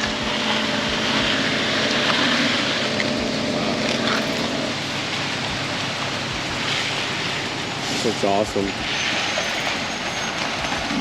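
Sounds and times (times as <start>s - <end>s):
broad hissing noise: 0.0s - 11.0s
truck engine running: 0.0s - 11.0s.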